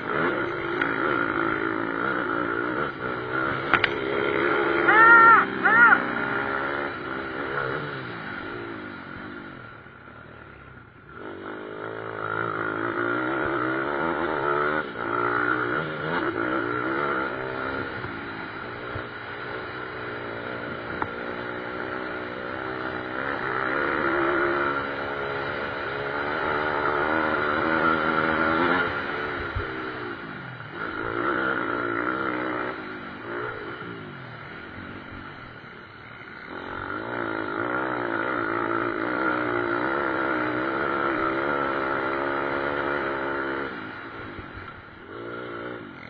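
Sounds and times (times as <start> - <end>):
pit bike engines revving: 0.0 - 46.0.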